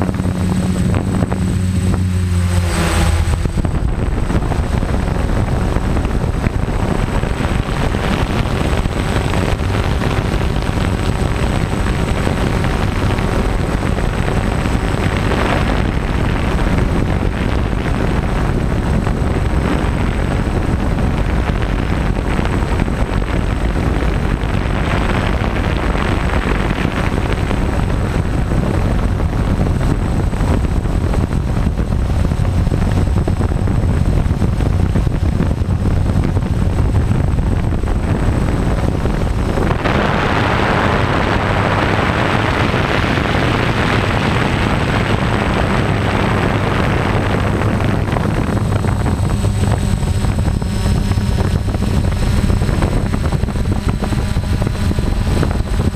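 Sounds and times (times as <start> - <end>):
drone motors and propellers droning: 0.0 - 55.9
wind rushing over microphone: 0.0 - 55.9.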